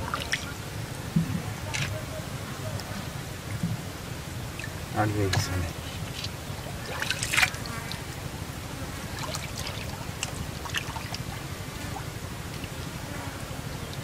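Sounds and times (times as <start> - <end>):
small splashes: 0.0 - 13.0
water trickling and sloshing: 0.0 - 14.0.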